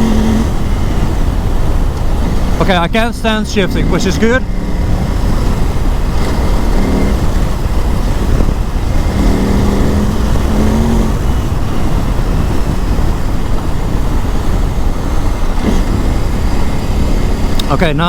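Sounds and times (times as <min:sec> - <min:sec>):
low rumble of riding noise: 0:00.0 - 0:18.0
motorcycle engine running: 0:00.0 - 0:18.0.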